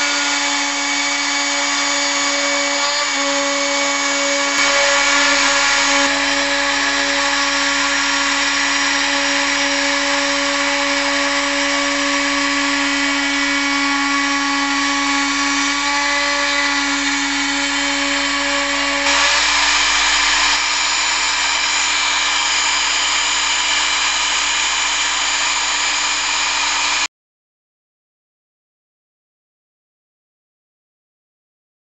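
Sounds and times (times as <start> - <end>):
router bit cutting wood: 0.0 - 27.1
router spindle whine: 0.0 - 27.1.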